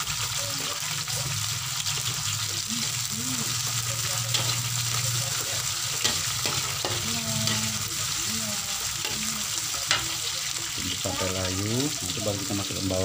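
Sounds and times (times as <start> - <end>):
chillies sizzling in hot oil: 0.0 - 13.0
metal spatula scraping a pan: 0.6 - 11.9.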